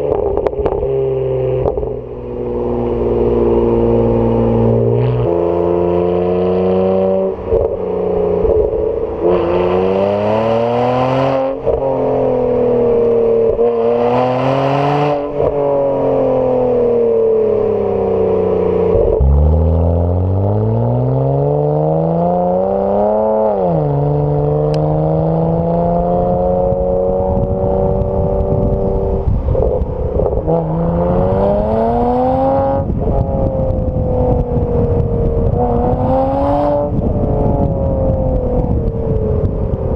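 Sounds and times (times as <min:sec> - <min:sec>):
car engine accelerating and shifting: 0:00.0 - 0:39.9
road and wind noise: 0:00.0 - 0:39.9.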